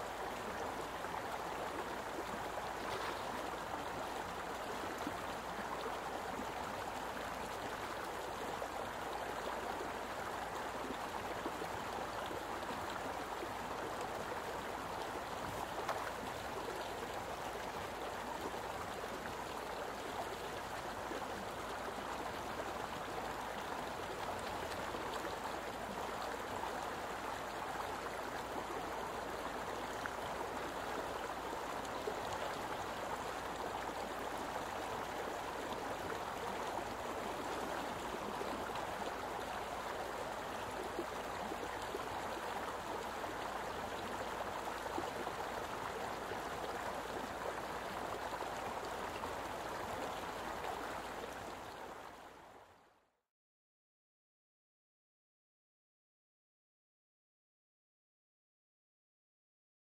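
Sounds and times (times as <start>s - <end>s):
flowing water rushing: 0.0s - 52.7s.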